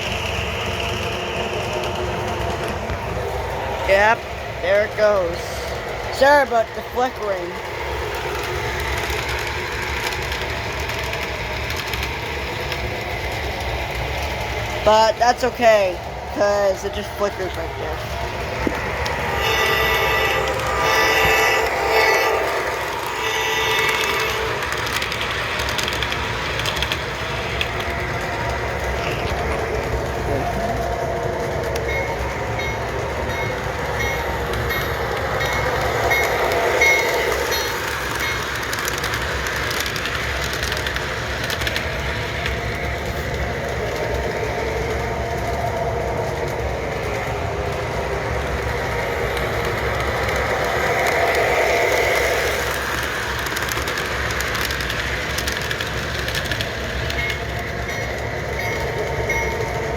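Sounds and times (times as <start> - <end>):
model train motor hum: 0.0 - 59.9
wheels rattling on rails: 0.0 - 59.9.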